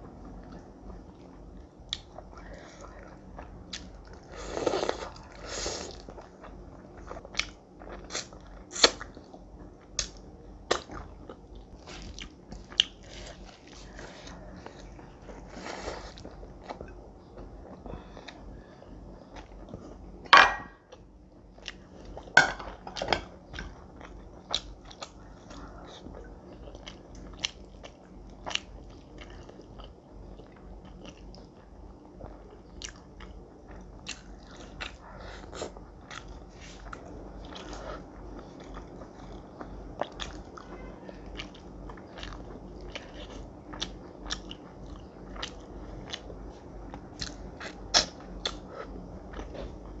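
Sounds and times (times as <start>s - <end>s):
person chewing food: 0.2s - 20.2s, 20.8s - 50.0s.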